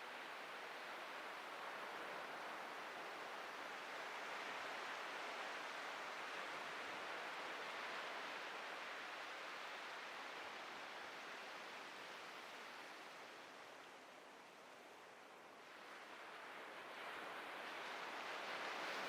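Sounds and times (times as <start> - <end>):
ocean waves breaking on beach: 0.1 - 19.0.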